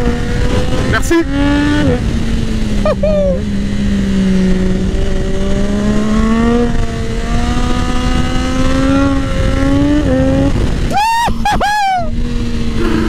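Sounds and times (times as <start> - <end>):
motorcycle engine accelerating: 0.0 - 13.0
wind rush on microphone: 0.0 - 13.0.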